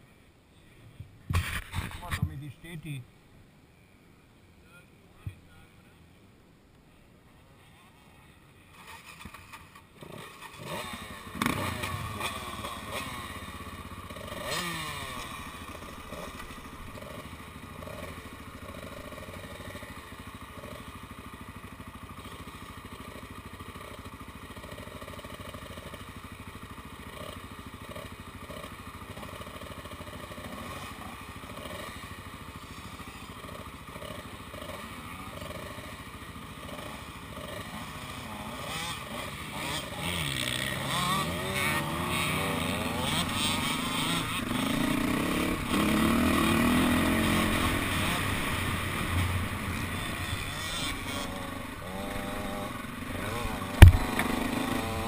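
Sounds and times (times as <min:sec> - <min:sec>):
motorbike engine revving and idling: 0:08.6 - 0:55.0.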